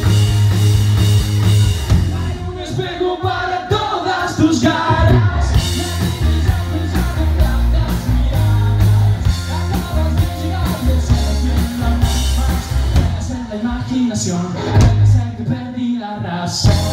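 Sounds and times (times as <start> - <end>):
electric bass: 0.0 - 2.9, 4.8 - 15.4, 16.6 - 16.9
electric guitar: 0.0 - 3.4, 4.6 - 15.5, 16.6 - 16.9
live rock band playing: 0.0 - 15.5, 16.6 - 16.9
man singing: 1.9 - 16.9.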